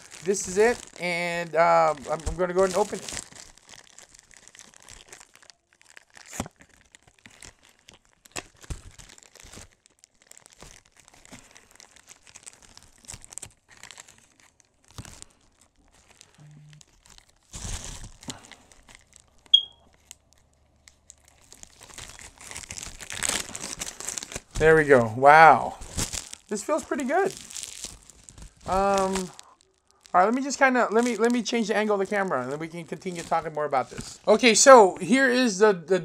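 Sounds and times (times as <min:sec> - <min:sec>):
plastic packaging crinkling: 0:00.0 - 0:34.8.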